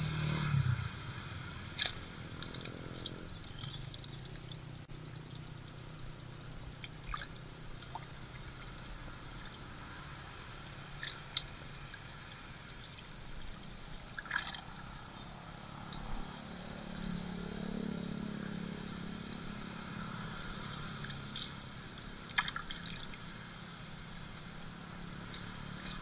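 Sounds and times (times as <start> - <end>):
low steady hum: 0.0 - 26.0
water splashing and dripping: 0.9 - 26.0.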